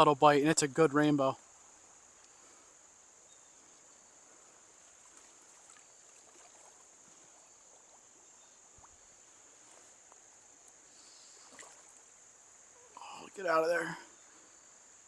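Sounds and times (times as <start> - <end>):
high-pitched insect chorus: 0.0 - 15.0
stream water running: 0.0 - 15.0.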